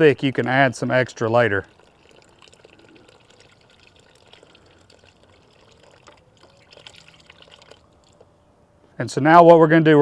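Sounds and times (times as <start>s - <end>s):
liquid trickling into a pot: 0.2s - 8.3s.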